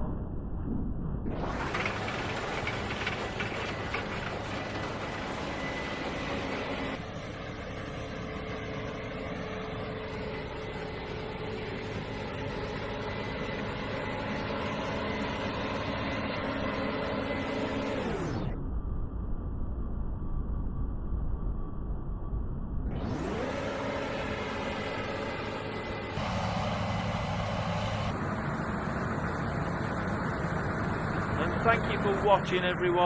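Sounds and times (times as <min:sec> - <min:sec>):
machinery engines droning: 0:01.1 - 0:20.6, 0:21.4 - 0:33.0.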